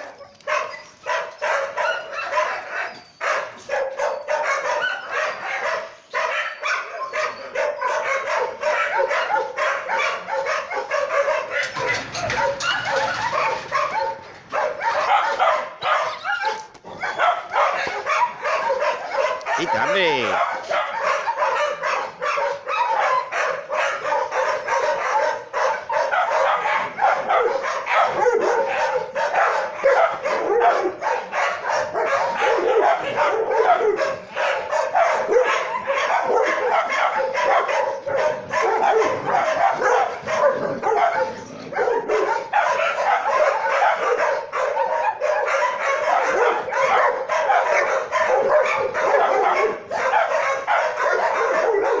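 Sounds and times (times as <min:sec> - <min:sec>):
dogs barking and yipping: 0:00.0 - 0:52.0.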